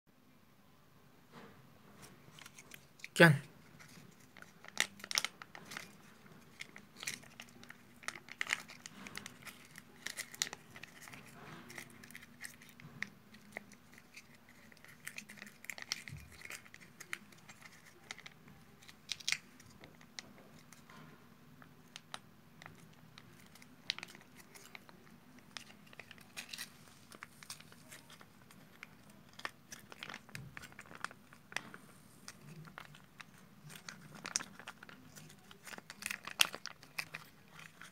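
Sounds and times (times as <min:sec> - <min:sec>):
foil pouch crinkling: 0:02.3 - 0:20.8, 0:21.8 - 0:37.9.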